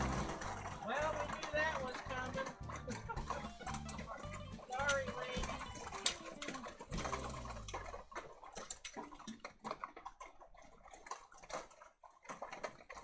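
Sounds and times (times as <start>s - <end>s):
rain dripping and pattering: 0.0s - 13.0s.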